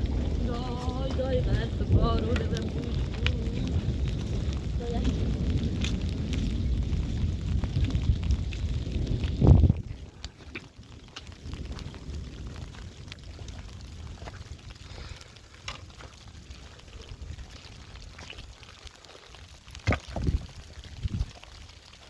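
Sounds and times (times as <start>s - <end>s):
low rumble: 0.0s - 18.6s.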